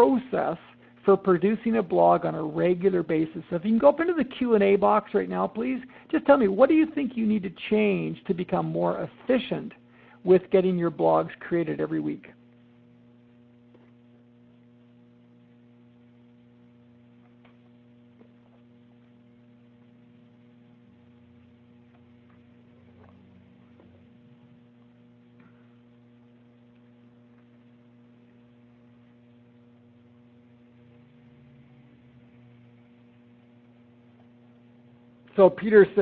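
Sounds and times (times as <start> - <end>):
electrical hum: 0.0 - 36.0.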